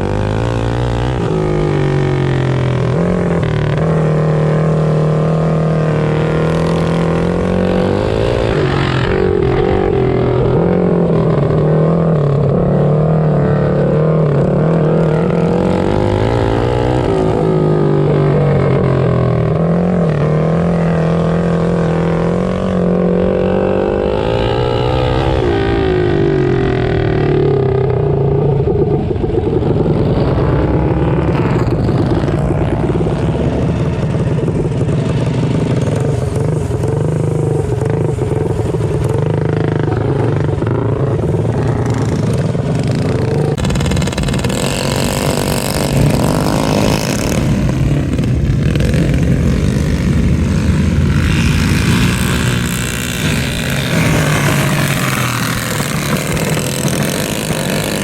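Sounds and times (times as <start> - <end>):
mini bike engines revving: 0.0 - 58.0.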